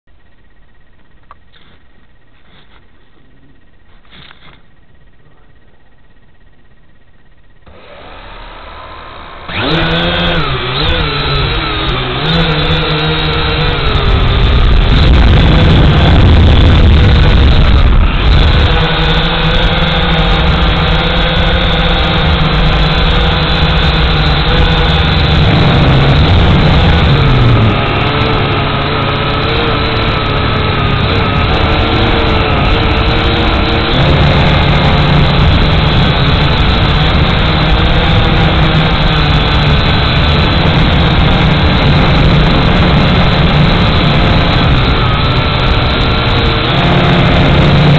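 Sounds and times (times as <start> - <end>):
drone propellers buzzing: 0.1 - 47.9.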